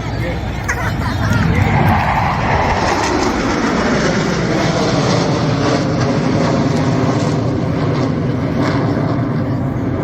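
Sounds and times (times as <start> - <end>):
jet aircraft engine roar: 0.0 - 10.0.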